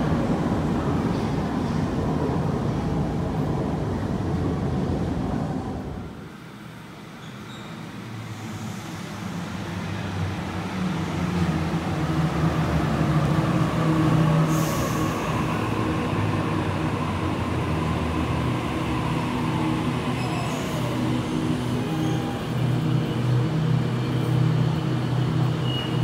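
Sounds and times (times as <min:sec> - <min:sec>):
electric train arriving: 0:00.0 - 0:26.0.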